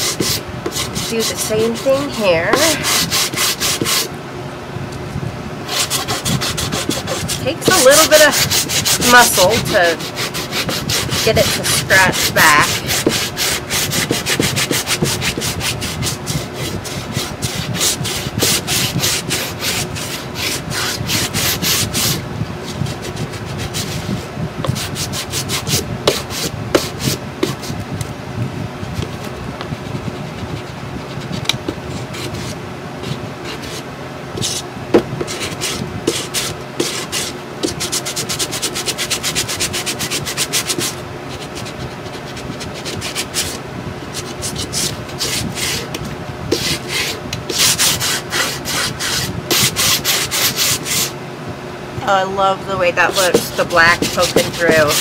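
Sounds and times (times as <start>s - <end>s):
sanding block scratching wood: 0.0s - 4.1s, 5.7s - 22.2s, 22.8s - 27.8s, 29.8s - 33.8s, 34.4s - 34.6s, 35.2s - 51.1s, 53.0s - 55.0s.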